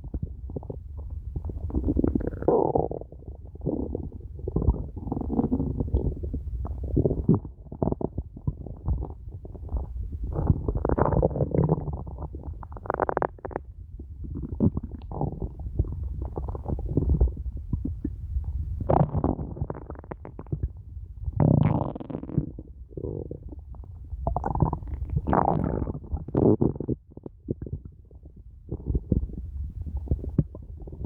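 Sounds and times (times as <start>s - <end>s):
stomach growling: 0.0s - 31.0s.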